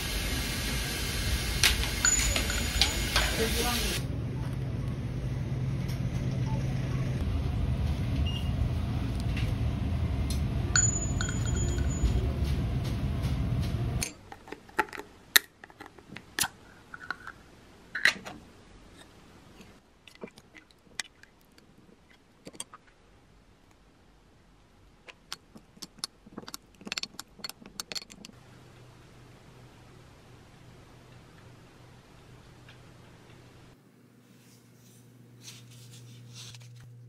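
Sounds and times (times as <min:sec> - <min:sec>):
low background hum: 0:00.0 - 0:37.0.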